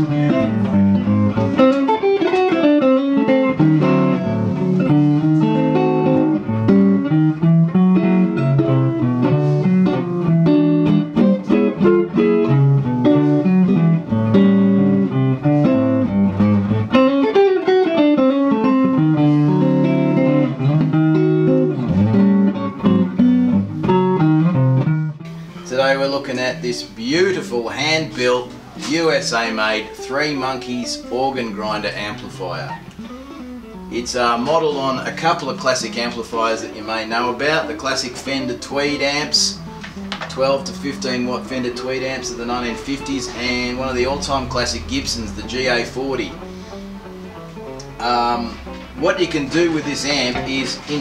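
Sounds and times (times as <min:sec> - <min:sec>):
electric guitar notes and chords: 0:00.0 - 0:51.0.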